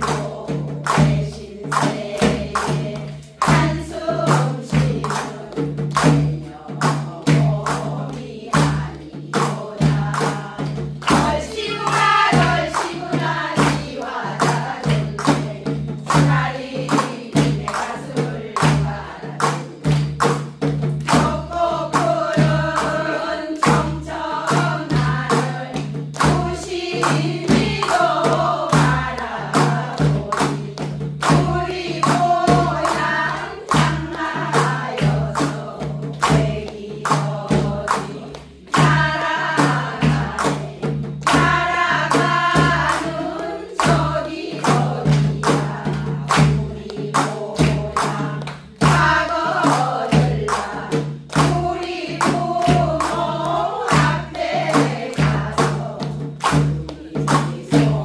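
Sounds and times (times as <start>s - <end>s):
women singing in unison: 0.0s - 58.0s.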